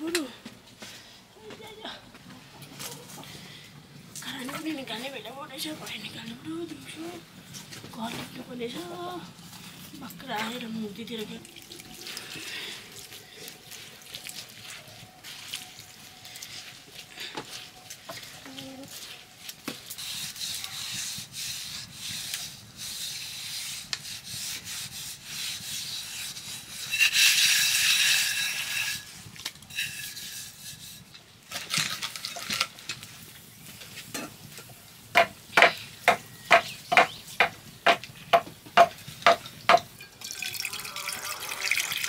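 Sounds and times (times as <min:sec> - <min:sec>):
hand scrubbing a pot: 0:04.2 - 0:42.0.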